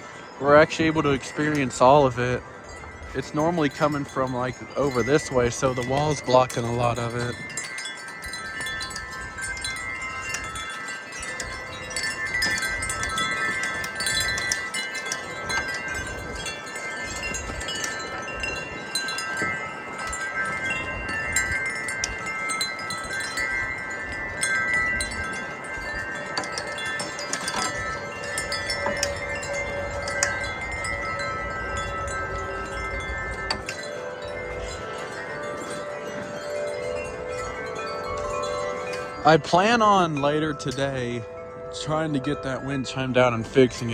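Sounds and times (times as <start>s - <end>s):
low rumble of wind: 0.0s - 43.9s
wind chimes ringing: 0.0s - 43.9s.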